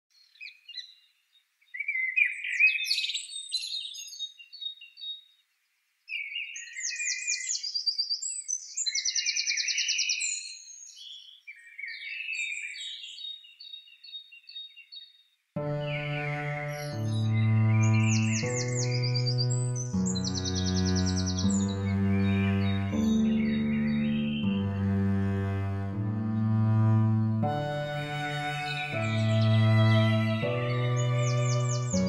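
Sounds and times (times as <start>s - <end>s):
songbirds chirping and trilling: 0.1s - 32.0s.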